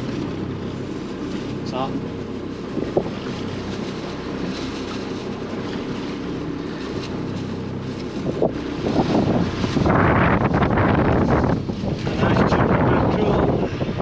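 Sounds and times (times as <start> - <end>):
boat engine running: 0.0 - 14.0
choppy water: 0.0 - 14.0
wind buffeting microphone: 0.0 - 14.0.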